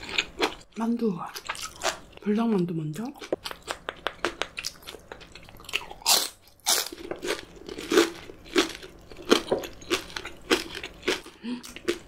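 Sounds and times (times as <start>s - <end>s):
biting and chewing food: 0.0s - 2.3s, 3.0s - 12.0s.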